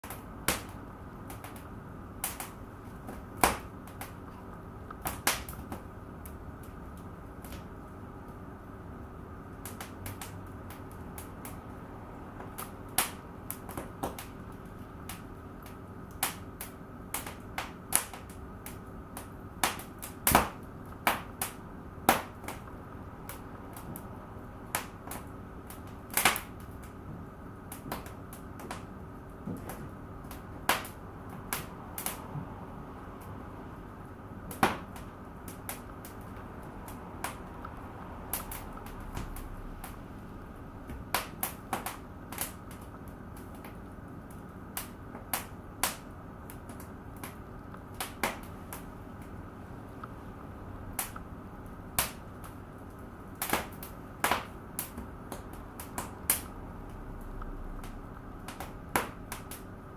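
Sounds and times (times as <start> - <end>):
fire crackling: 0.0 - 59.9
low background hum: 0.0 - 59.9.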